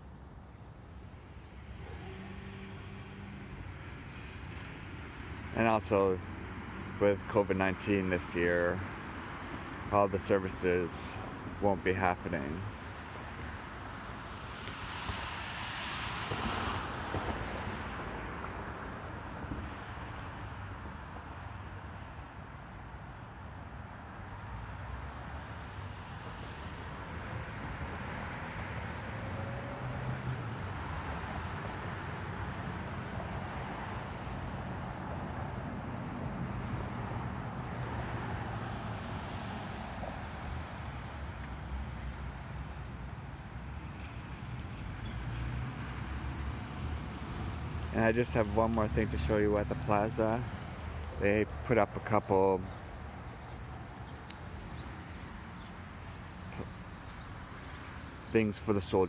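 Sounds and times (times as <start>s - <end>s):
passing vehicles rumbling: 0.2s - 59.0s.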